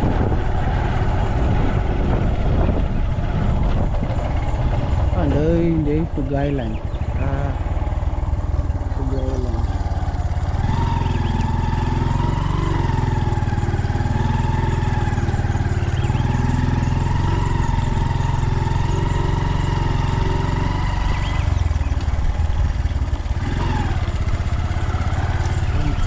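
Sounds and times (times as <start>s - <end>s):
engine whine: 0.0s - 26.0s
vehicle engine running: 0.0s - 26.0s.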